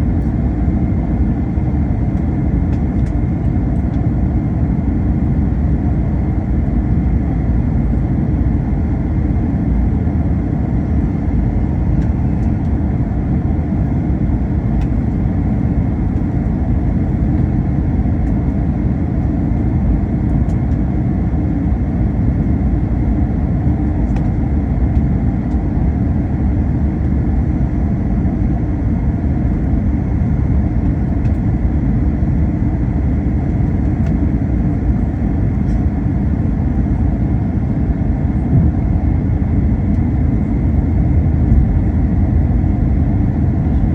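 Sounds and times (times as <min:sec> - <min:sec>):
jet engine and airflow rumble: 0:00.0 - 0:43.9.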